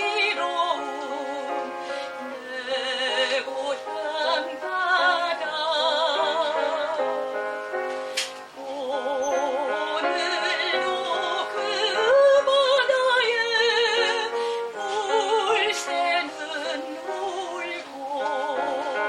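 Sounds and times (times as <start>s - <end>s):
piano accompaniment: 0.0s - 19.0s
soprano singing with vibrato: 0.0s - 19.0s.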